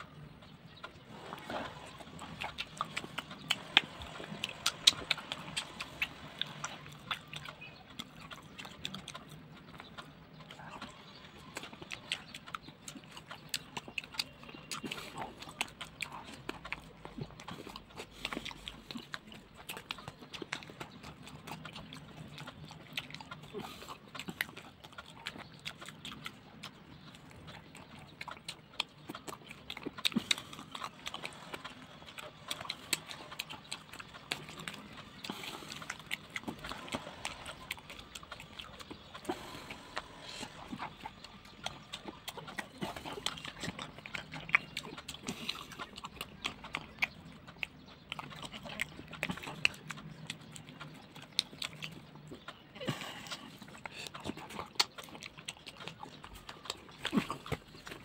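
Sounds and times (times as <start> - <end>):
wet chewing and lip smacking: 0.0 - 58.0.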